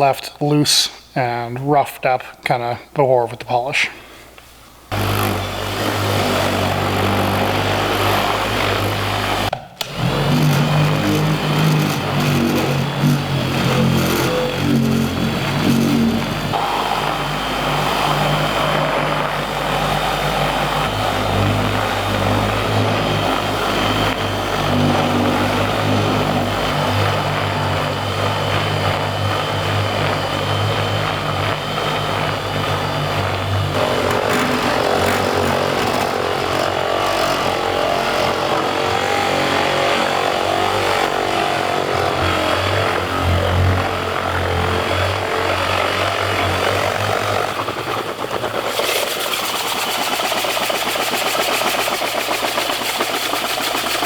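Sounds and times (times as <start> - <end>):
electric polisher whirring: 4.9 - 54.0.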